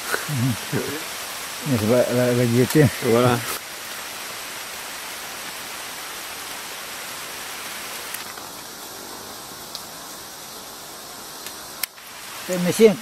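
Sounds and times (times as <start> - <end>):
higher steady hiss: 0.0 - 13.0
rainforest background hiss: 0.0 - 13.0.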